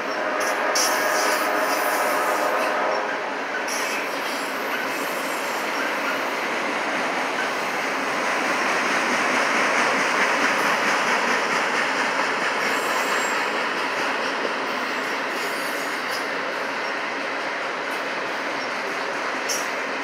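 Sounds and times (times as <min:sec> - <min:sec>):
train wheels clacking on rails: 0:00.0 - 0:20.0.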